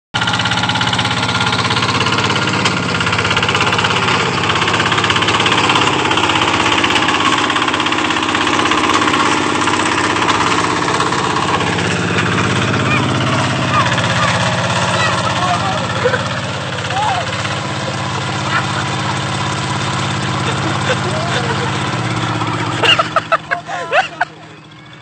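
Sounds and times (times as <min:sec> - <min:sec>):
farm machine engine running: 0:00.2 - 0:25.0.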